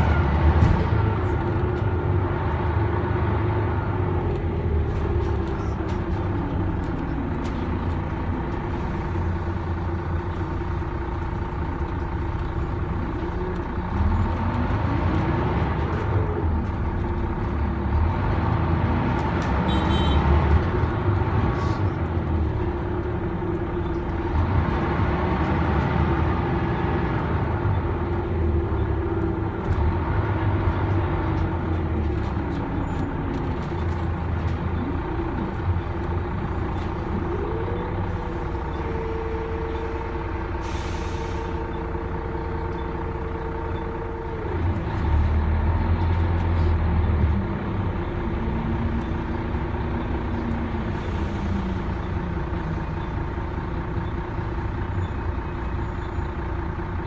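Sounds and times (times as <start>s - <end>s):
bus engine rumbling inside cabin: 0.0s - 57.0s.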